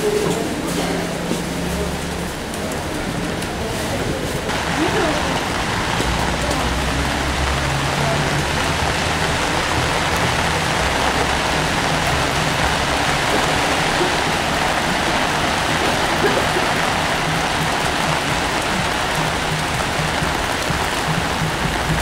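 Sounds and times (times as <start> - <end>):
traffic on wet street: 0.0 - 22.0
rain hiss: 3.9 - 22.0.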